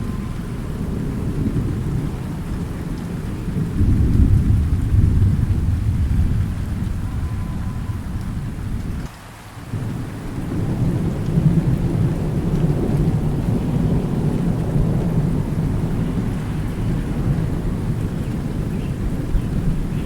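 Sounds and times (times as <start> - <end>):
rolling thunder: 0.0 - 9.1, 9.7 - 20.0
steady rain: 0.0 - 20.0.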